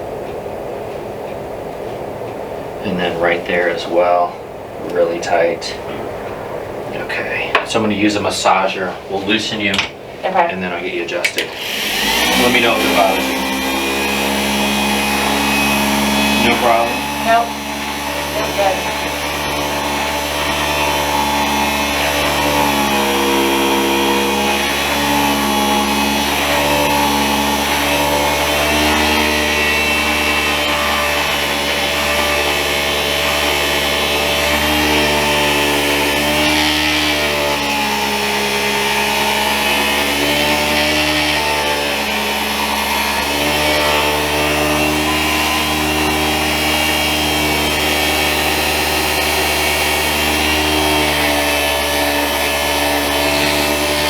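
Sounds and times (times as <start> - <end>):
electric massager motor hum: 10.4 - 54.0.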